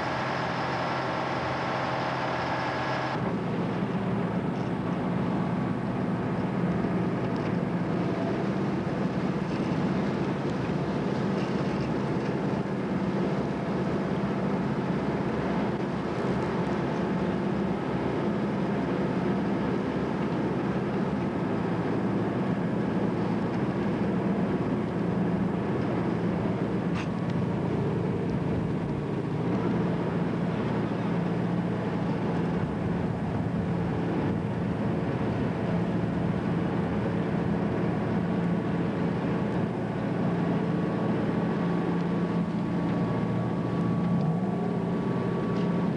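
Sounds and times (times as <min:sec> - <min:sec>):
diesel engines droning: 0:00.0 - 0:45.9.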